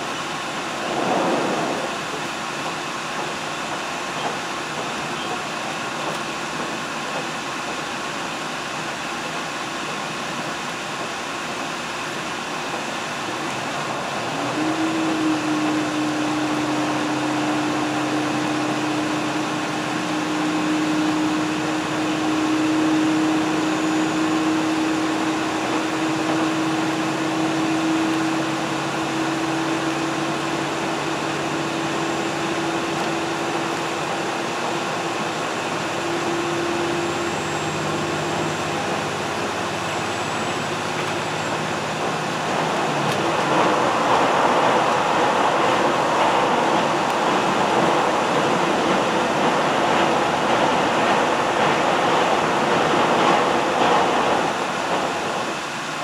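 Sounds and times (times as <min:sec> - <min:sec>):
train rumbling inside car: 0:00.0 - 0:56.0.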